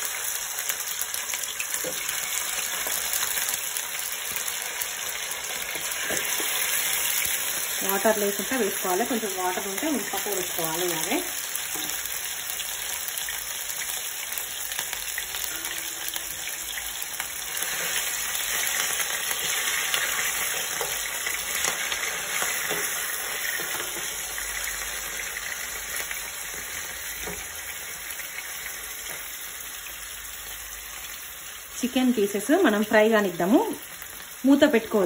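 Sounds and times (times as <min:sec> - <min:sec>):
chicken sizzling in a frying pan: 0:00.0 - 0:35.0.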